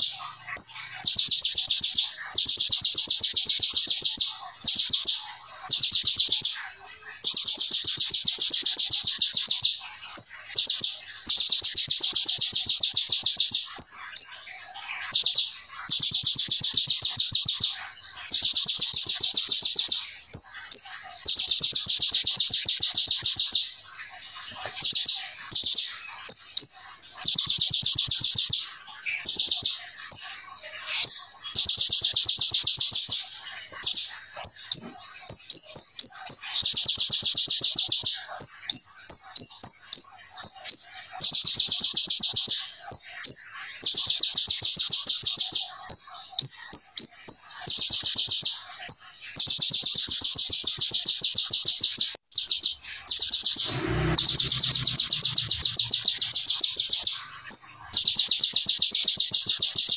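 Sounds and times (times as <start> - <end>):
bird chirps and whistled glides: 0.0 - 59.9
bird singing rapid high notes: 0.0 - 59.9.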